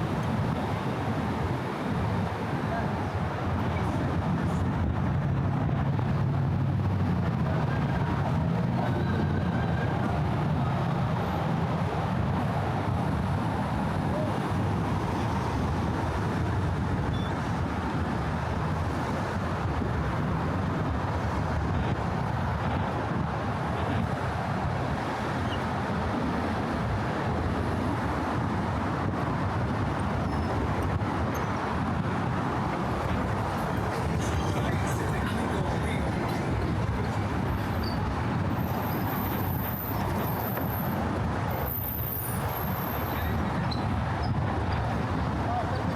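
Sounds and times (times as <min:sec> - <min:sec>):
steady traffic noise: 0:00.0 - 0:45.9.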